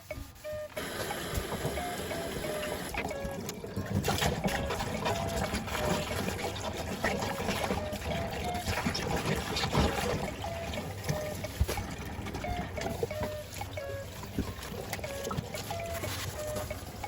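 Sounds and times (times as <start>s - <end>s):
water running and splashing: 0.3s - 17.0s.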